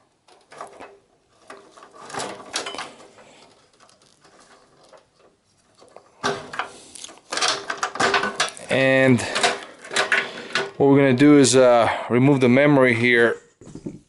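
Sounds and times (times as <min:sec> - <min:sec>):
cables scraping metal chassis: 0:00.0 - 0:11.7.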